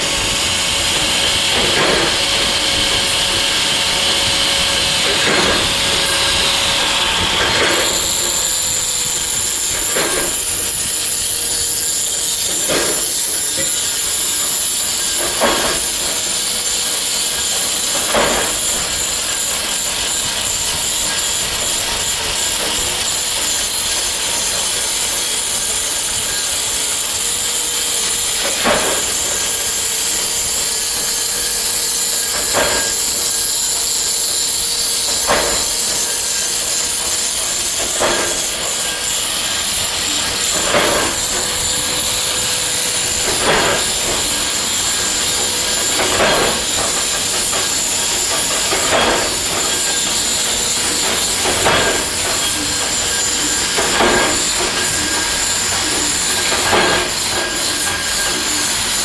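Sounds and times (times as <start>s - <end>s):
industrial machinery hiss and whine: 0.0s - 59.0s.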